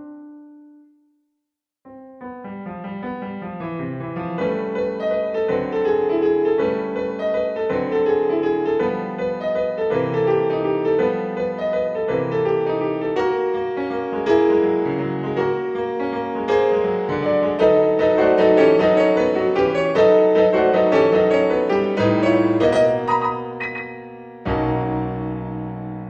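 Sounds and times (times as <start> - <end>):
solo piano piece: 0.0 - 1.2, 1.9 - 26.0.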